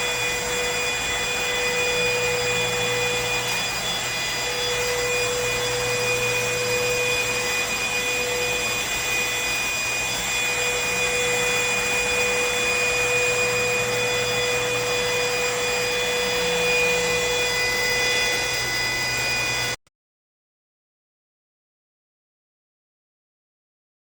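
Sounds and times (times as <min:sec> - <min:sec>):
vacuum cleaner whining: 0:00.0 - 0:19.8.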